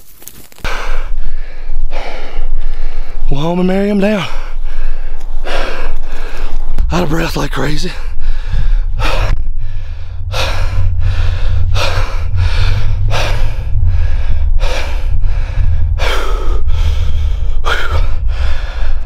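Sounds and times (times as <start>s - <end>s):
steady low rumble: 0.0s - 19.0s
man panting hard: 0.6s - 3.3s, 4.1s - 6.9s, 7.8s - 19.0s.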